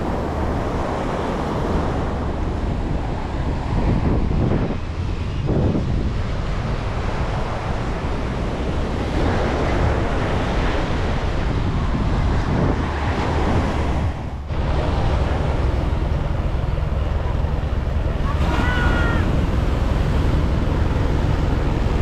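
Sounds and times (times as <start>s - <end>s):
ocean surf washing ashore: 0.0s - 22.0s
wind buffeting microphone: 0.0s - 22.0s.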